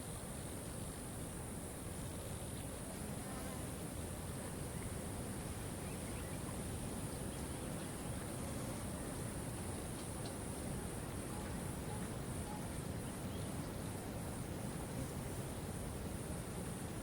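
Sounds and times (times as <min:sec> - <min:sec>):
high hiss: 0:00.0 - 0:17.0.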